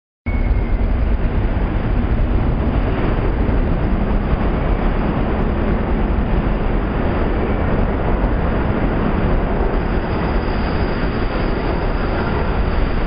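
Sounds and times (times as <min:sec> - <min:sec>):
subway station rumble: 0:00.3 - 0:13.0.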